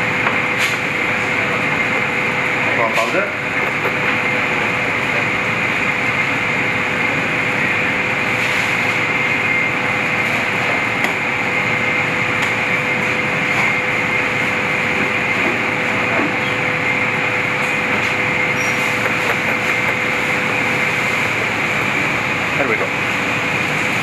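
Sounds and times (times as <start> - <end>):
constant hum: 0.0 - 24.0
ventilation fans rushing: 0.0 - 24.0.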